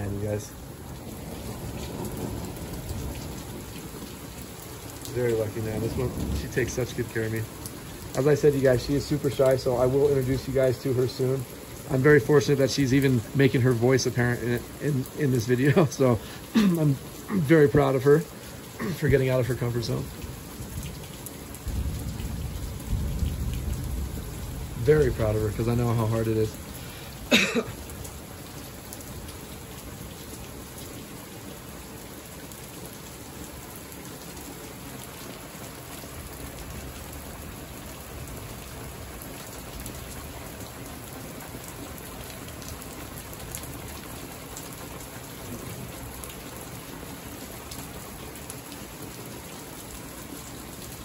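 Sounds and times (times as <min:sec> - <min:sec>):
heavy rain hissing: 0:00.0 - 0:51.0.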